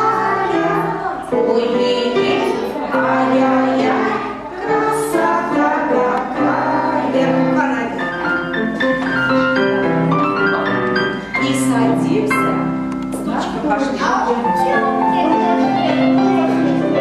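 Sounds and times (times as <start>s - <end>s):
piano accompaniment: 0.0s - 17.0s.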